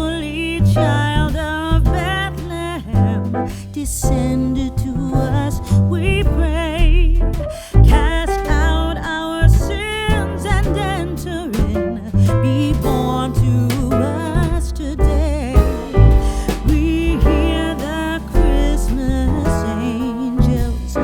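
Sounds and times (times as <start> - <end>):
song with vocals guitar and bass: 0.0 - 21.0.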